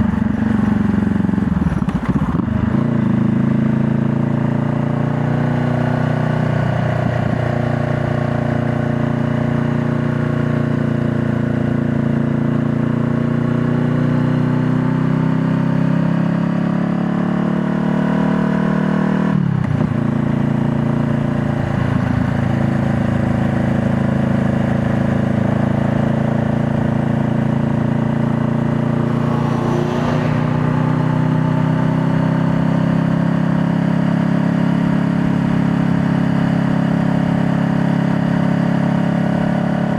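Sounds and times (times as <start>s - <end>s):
motorcycle engine running: 0.0s - 15.4s, 17.1s - 39.9s.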